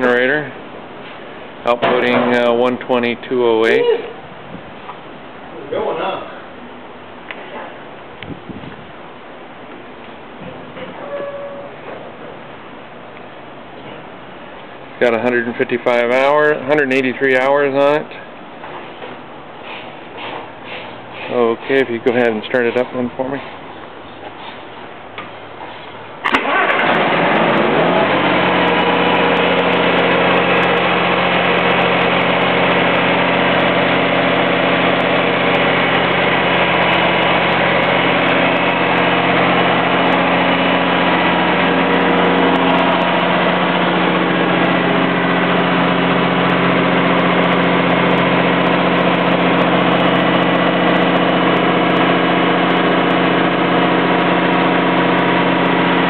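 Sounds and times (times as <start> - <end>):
diesel generator starting and running: 0.0 - 56.0.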